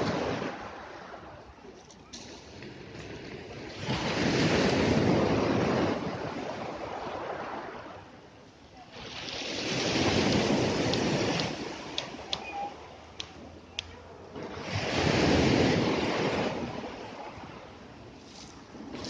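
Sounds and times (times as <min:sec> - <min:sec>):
sea waves breaking on shore: 0:00.0 - 0:01.4, 0:02.4 - 0:08.2, 0:08.8 - 0:19.0.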